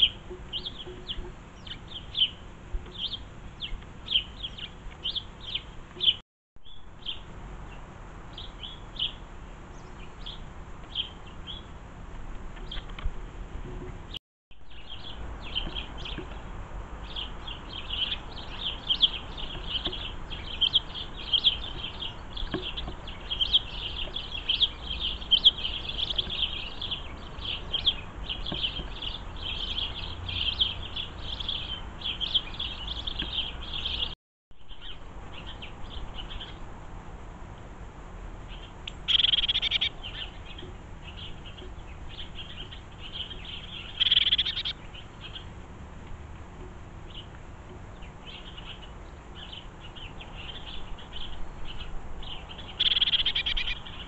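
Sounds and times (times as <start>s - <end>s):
small birds chirping: 0.0s - 36.8s, 38.4s - 54.0s.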